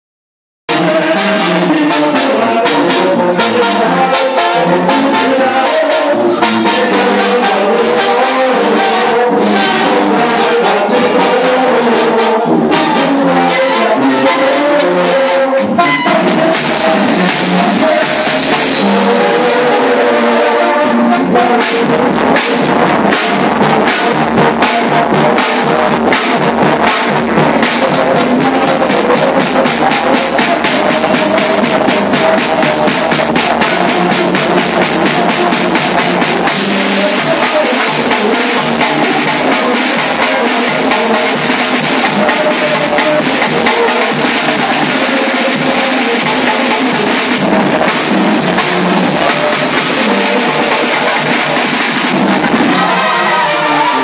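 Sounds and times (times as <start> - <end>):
brass band with drums: 0.7 - 54.0.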